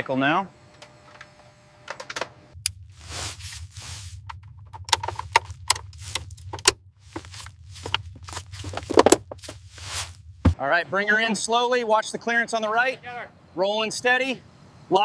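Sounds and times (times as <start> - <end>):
low steady hum: 2.5 - 15.0.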